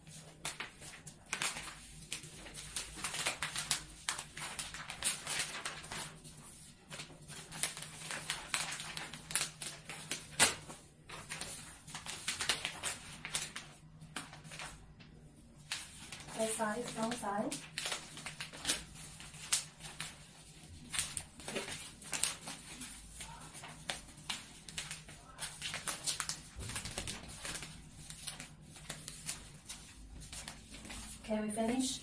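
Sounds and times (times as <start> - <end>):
wrapping paper rustling and crinkling: 0.0 - 32.0.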